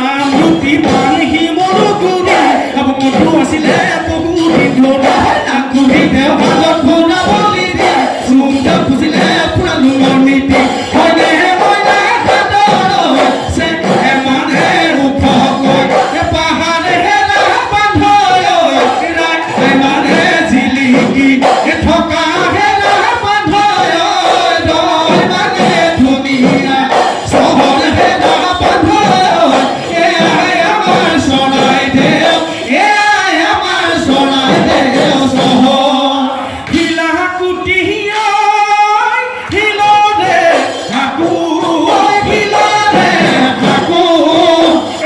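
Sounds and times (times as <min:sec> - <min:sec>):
drums beating: 0:00.0 - 0:45.0
men singing together: 0:00.0 - 0:45.0.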